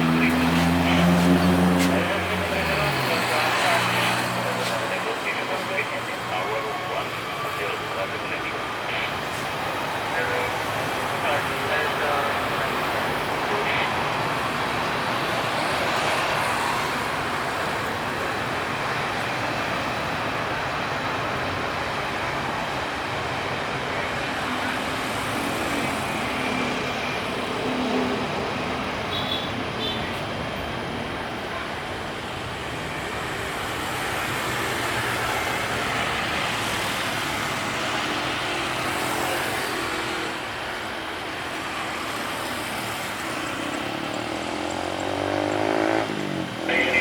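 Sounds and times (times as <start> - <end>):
engine and traffic rumble: 0.0 - 47.0.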